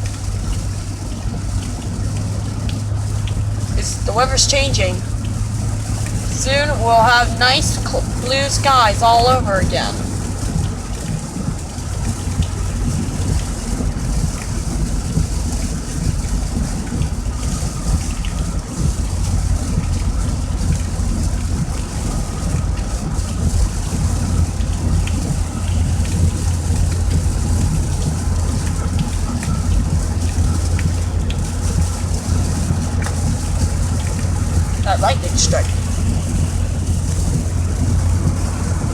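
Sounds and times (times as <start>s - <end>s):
heavy rain drumming on car: 0.0s - 38.9s
road and engine rumble: 0.0s - 38.9s.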